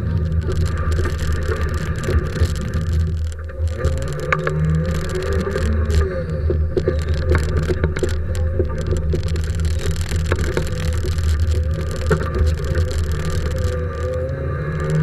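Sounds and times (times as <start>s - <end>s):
car engine droning: 0.0s - 15.0s
clicks and knocks in car: 0.0s - 15.0s.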